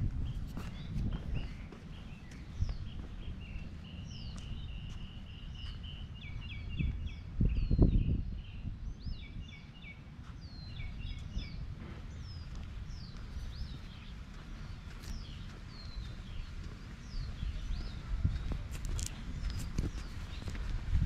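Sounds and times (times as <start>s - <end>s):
footsteps rumbling: 0.0s - 6.1s, 10.2s - 21.0s
songbirds chirping: 0.0s - 21.0s.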